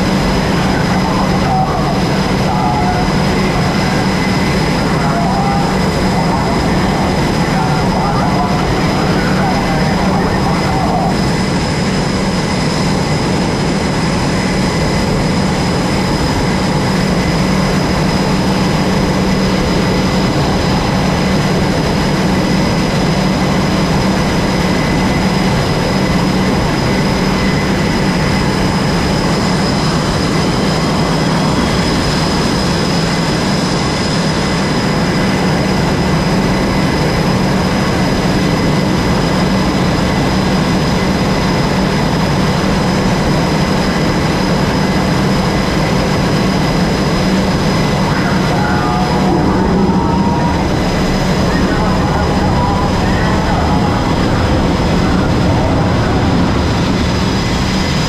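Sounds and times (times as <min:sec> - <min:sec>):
high-pitched engine whine: 0:00.0 - 0:58.0
jet engines roaring: 0:00.0 - 0:58.0.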